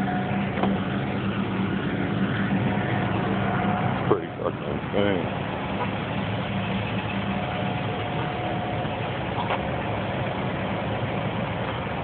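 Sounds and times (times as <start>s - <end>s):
faint steady whine: 0.0s - 12.0s
large engine idling: 0.0s - 12.0s.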